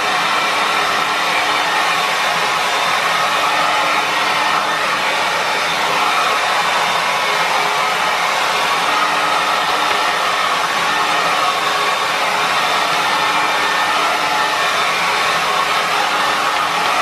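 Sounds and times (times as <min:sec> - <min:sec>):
hair dryers blowing air: 0:00.0 - 0:17.0.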